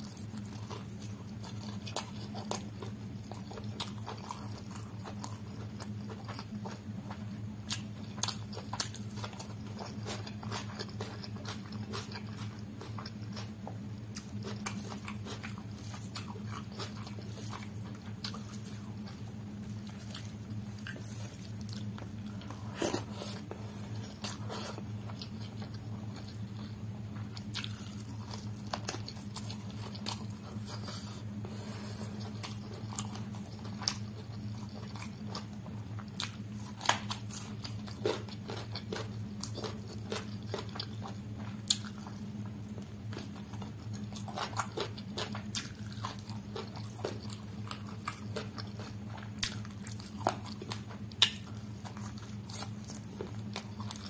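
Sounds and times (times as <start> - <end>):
steady low hum: 0.0 - 54.0
wet chewing mouth sounds: 0.0 - 54.0.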